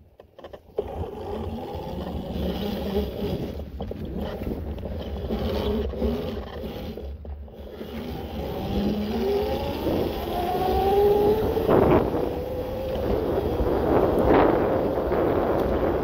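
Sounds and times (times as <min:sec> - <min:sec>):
electric bike motor whining: 0:00.3 - 0:16.0.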